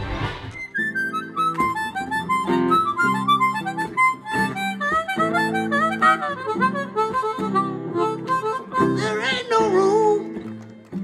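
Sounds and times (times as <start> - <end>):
acoustic guitar chords: 0.0 - 11.0
harmonica with bent notes: 0.4 - 10.4.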